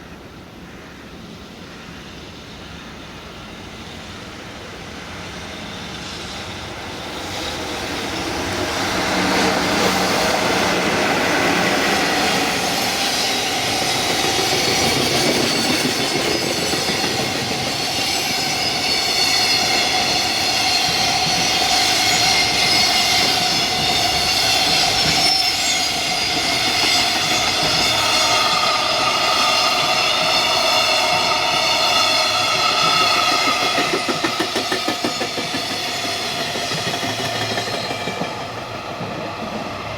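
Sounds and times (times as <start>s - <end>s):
freight train wheel noise: 0.0s - 39.9s.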